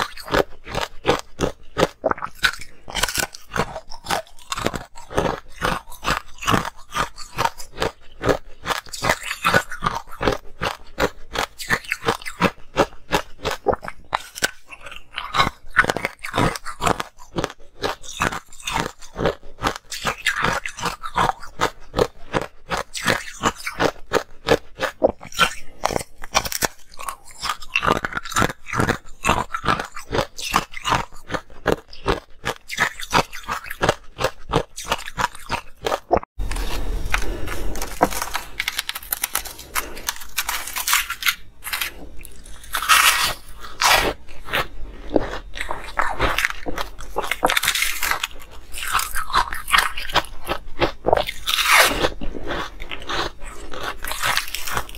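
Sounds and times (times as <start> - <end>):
ice crunching while chewed: 0.0 - 54.9.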